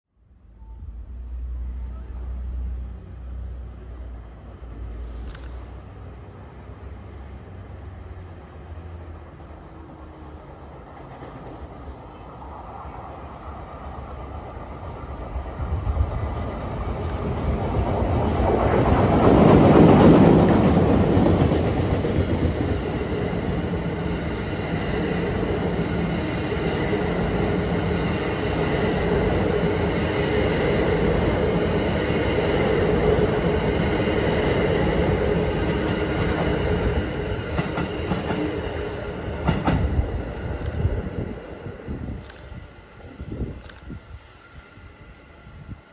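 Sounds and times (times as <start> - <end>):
train passing rumble: 0.2 - 45.9.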